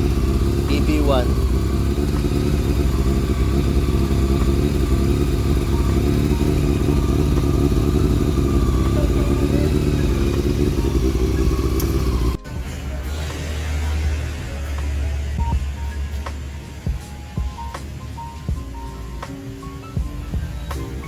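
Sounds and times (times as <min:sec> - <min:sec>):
low hum: 0:00.0 - 0:17.7
motorcycle engine idling: 0:00.0 - 0:21.0.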